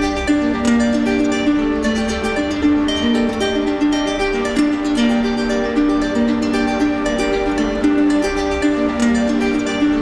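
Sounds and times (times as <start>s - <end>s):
plucked-string tune: 0.0s - 10.0s.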